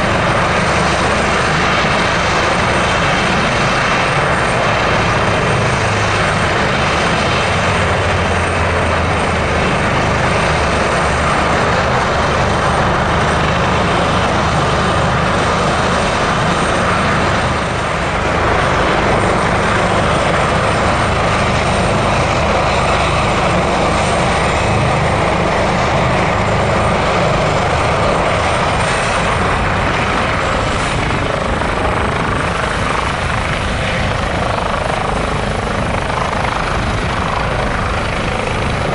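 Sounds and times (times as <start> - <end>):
helicopter turbine engines whining: 0.0 - 38.9.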